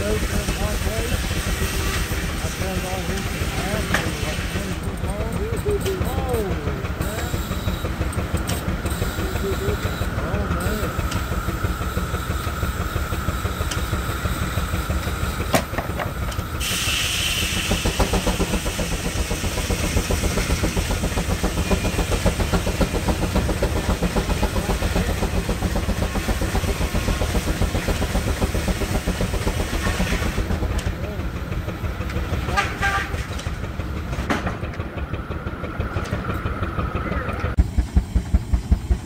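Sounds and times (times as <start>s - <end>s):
steam hissing: 0.0s - 34.0s
steam engine beat: 0.0s - 39.0s.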